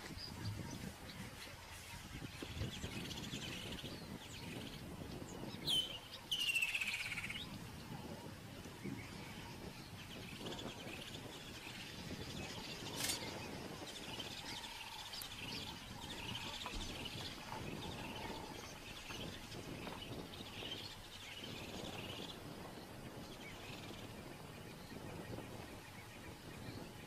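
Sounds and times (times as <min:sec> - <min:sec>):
birds chirping: 0:00.0 - 0:27.0
outdoor background noise: 0:00.0 - 0:27.0.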